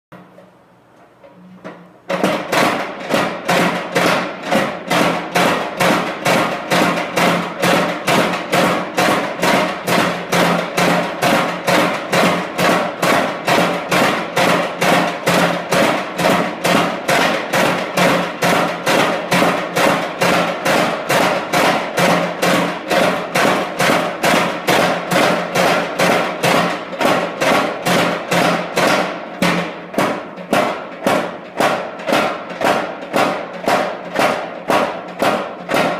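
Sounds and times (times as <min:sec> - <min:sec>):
power hammer blows: 0:01.6 - 0:35.9.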